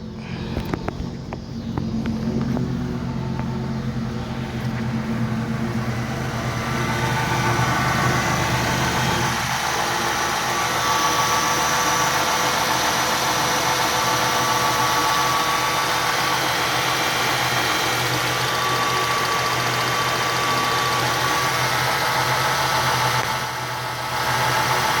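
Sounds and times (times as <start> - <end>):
car engine idling: 0.0 - 25.0
exhaust leak noise: 0.0 - 25.0.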